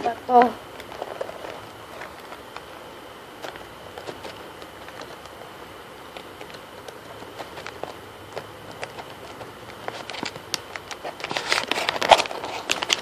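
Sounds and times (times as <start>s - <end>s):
crayons clicking and rustling in box: 0.0s - 13.0s
faint high hum: 0.0s - 13.0s.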